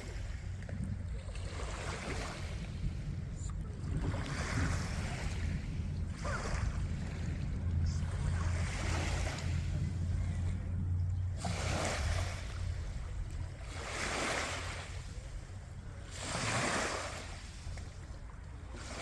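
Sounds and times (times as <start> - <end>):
waves washing ashore: 0.0 - 19.0
wind rumbling on microphone: 0.0 - 19.0.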